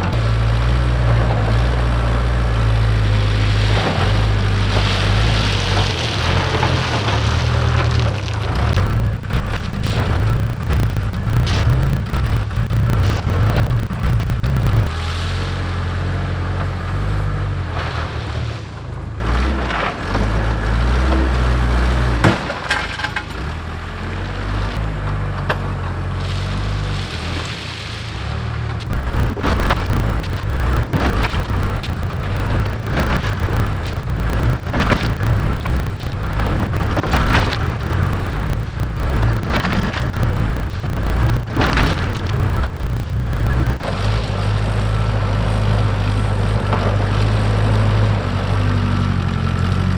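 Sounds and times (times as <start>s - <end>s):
rocks clattering and cracking: 0.0s - 15.0s, 19.2s - 27.9s, 28.7s - 48.6s
diesel engine under load: 0.0s - 49.9s.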